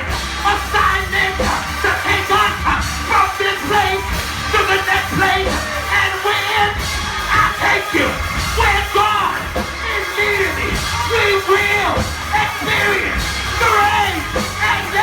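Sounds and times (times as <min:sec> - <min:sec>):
bass: 0:00.0 - 0:15.0
people singing: 0:00.0 - 0:15.0.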